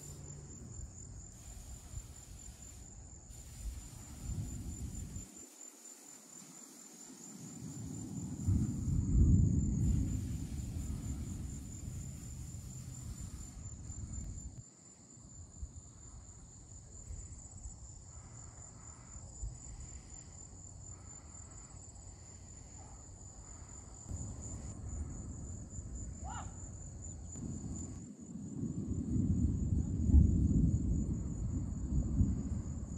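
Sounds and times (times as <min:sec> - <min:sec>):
insect chorus trilling: 0:00.0 - 0:32.9.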